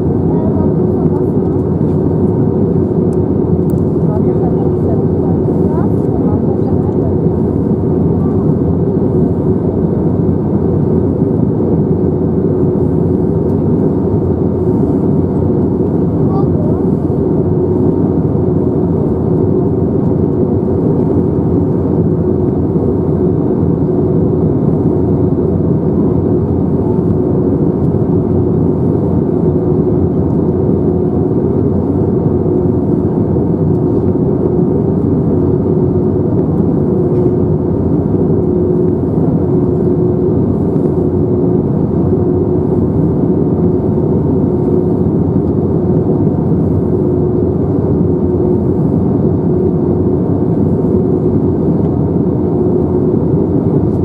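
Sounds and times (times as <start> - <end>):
constant hum: 0.0 - 54.0
jet engines droning: 0.0 - 54.0
rush of airflow: 7.2 - 54.0.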